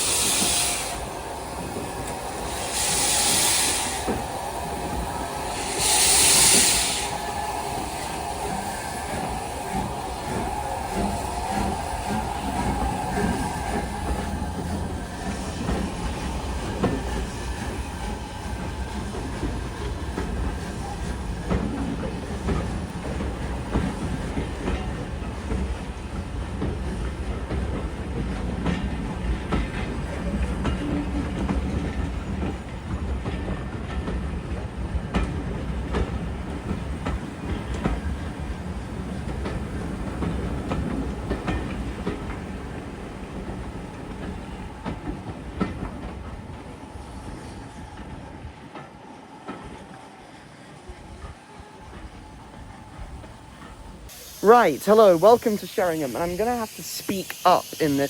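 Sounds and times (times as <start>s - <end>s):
train rumbling along track: 0.0s - 58.0s.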